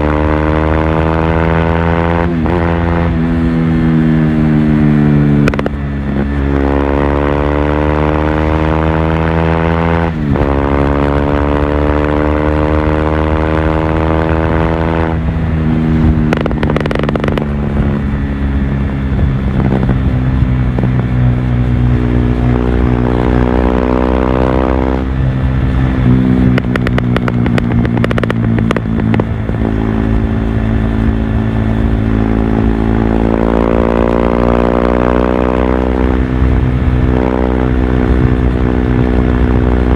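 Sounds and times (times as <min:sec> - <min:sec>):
exhaust crackling: 0:00.0 - 0:39.9
motorcycle engine revving: 0:00.0 - 0:39.9.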